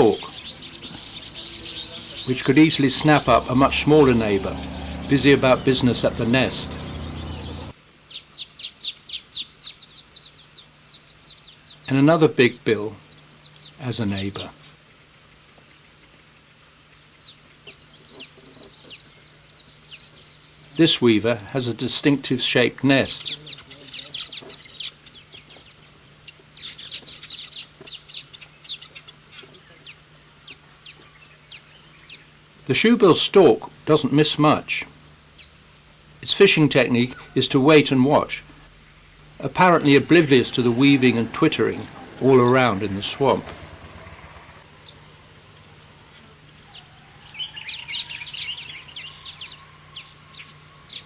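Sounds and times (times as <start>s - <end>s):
high-pitched background hum: 0.0s - 51.0s
weaver birds chirping: 0.0s - 51.0s.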